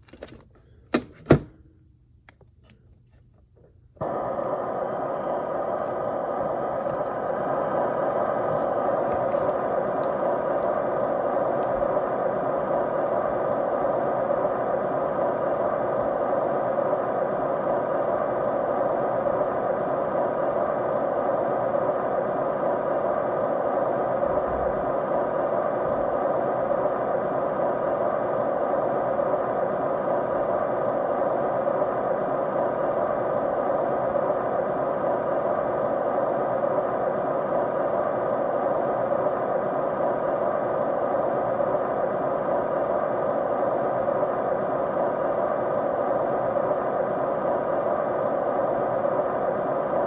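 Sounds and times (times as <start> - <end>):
faint steady tones: 0.6 - 50.0
white-noise hiss: 3.8 - 50.0.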